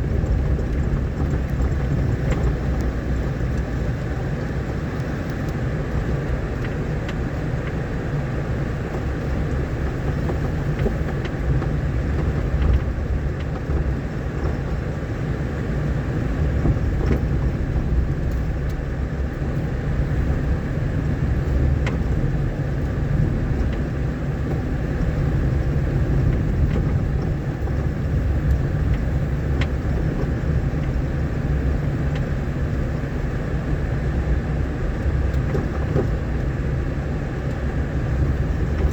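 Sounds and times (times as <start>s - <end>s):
engine and tyres rumbling: 0.0s - 38.9s.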